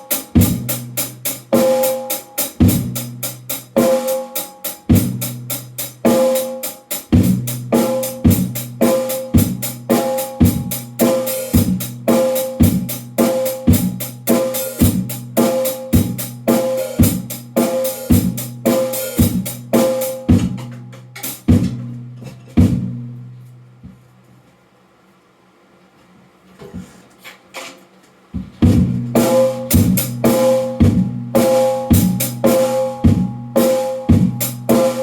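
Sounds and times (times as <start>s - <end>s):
drum kit playing a groove: 0.0s - 23.2s, 28.4s - 35.0s.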